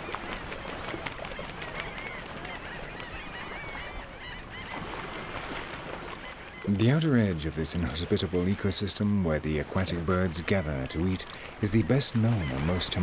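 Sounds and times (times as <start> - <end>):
waterbirds honking: 0.0 - 13.0.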